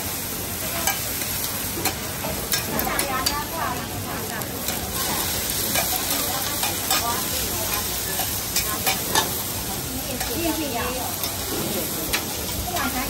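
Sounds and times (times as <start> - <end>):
food sizzling on a griddle: 0.0 - 13.0
metal spatula and tongs scraping: 0.6 - 13.0.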